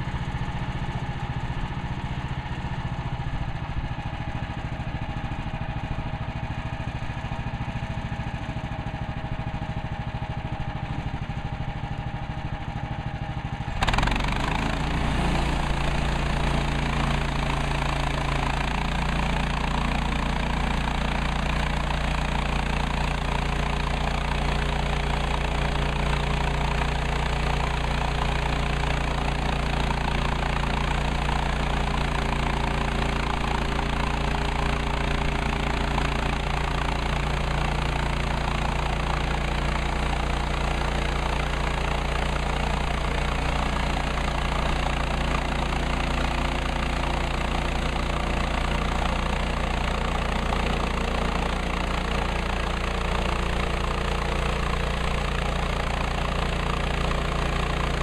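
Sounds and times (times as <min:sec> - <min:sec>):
gasoline engine running: 0:00.0 - 0:58.0.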